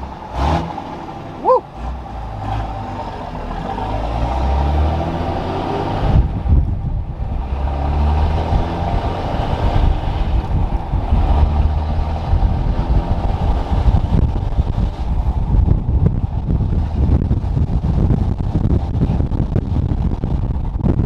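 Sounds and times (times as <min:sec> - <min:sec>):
diesel engine accelerating: 0:00.0 - 0:21.0.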